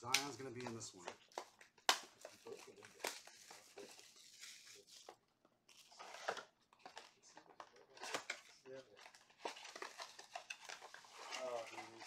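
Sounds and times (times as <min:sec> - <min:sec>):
packaging rustling: 0:00.2 - 0:12.0.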